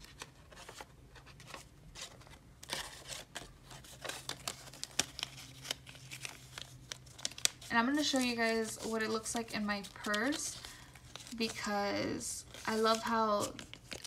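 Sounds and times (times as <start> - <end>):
paper money rustling: 0.0 - 14.0.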